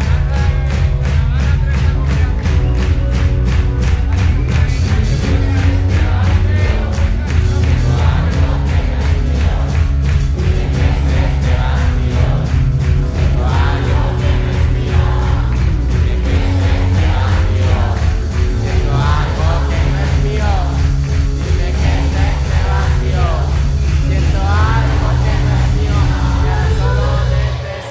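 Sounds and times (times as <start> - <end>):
live pop band with heavy bass: 0.0 - 27.9
people singing: 4.6 - 27.9.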